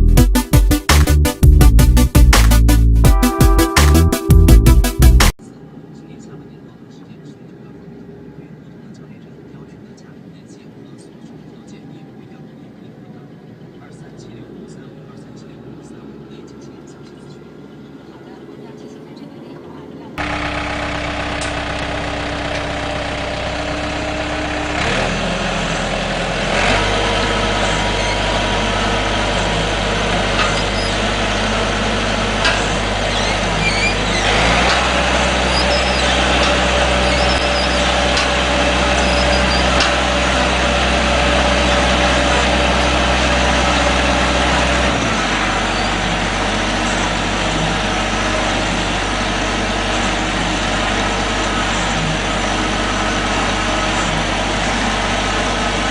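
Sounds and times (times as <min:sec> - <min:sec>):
heavy machinery engines running: 0:00.0 - 0:09.8, 0:10.8 - 0:55.9.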